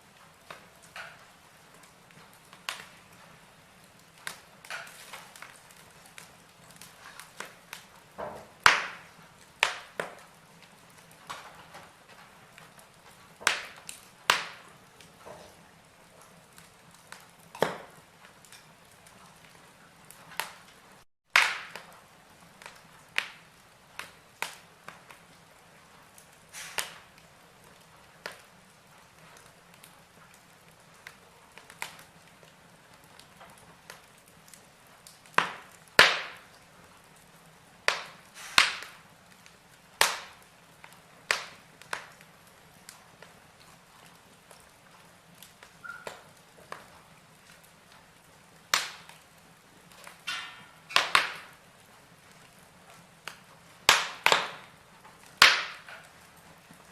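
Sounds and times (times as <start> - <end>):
logs crackling in a fireplace: 0.0 - 56.9.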